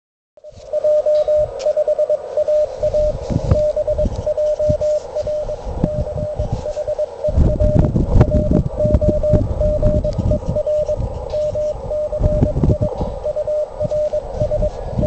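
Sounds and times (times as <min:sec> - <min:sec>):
morse code tone: 0:00.4 - 0:15.0
receiver hiss: 0:00.4 - 0:15.0
low thumps and rumbles: 0:02.4 - 0:15.0.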